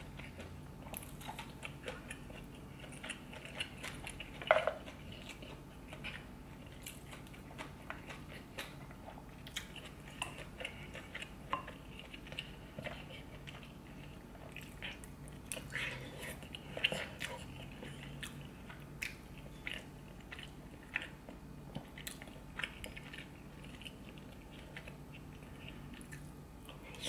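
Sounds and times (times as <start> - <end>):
wet chewing and biting: 0.0 - 27.0.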